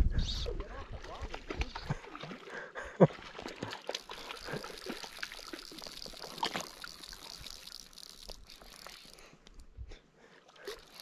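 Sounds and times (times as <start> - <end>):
water lapping and dribbling: 0.2 - 11.0
small water splashes: 0.4 - 9.3.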